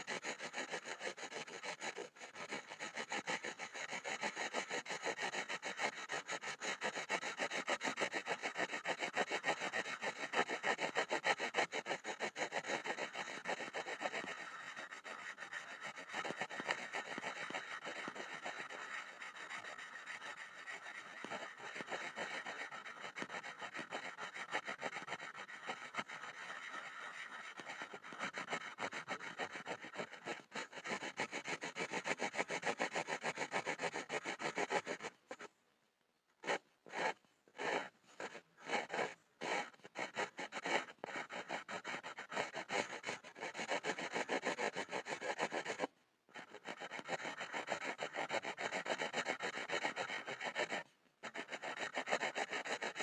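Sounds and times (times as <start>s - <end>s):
pencil scribbling on a board: 0.0s - 35.5s, 36.4s - 53.0s.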